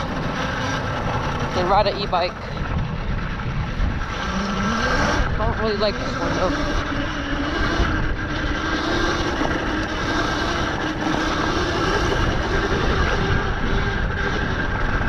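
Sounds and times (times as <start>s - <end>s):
electric motor whine: 0.0s - 15.0s
low rumble: 0.0s - 15.0s.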